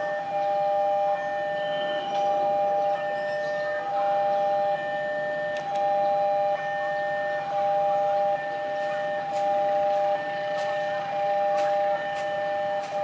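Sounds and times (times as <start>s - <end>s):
level crossing warning alarm: 0.0s - 13.0s.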